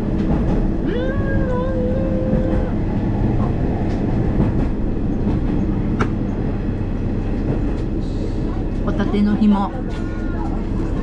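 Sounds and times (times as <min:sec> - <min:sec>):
diesel railcar rumble and clatter: 0:00.0 - 0:11.0.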